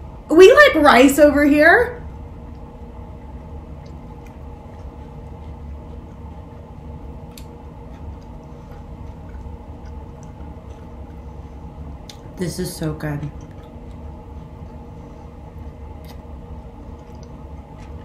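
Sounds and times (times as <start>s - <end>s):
steady low hum: 0.0s - 18.0s
quiet chewing: 2.3s - 12.4s, 13.2s - 18.0s.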